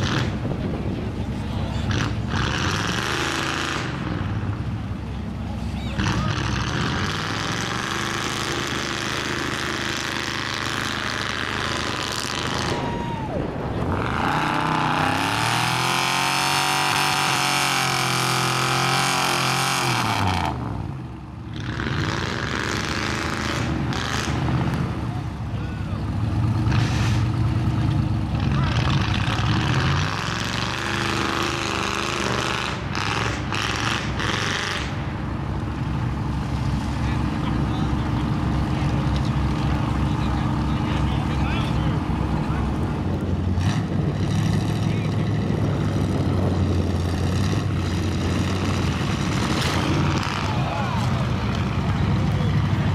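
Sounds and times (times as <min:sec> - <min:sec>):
truck engine at high revs: 0:00.0 - 0:52.9.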